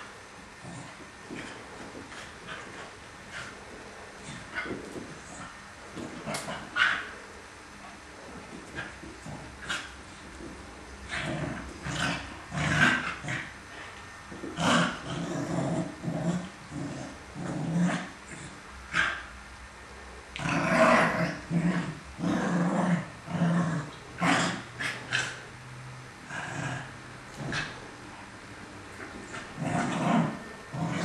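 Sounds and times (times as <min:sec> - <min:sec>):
dogs growling while play-fighting: 0:00.6 - 0:07.2, 0:08.2 - 0:19.3, 0:20.3 - 0:25.5, 0:26.2 - 0:27.8, 0:29.0 - 0:31.0.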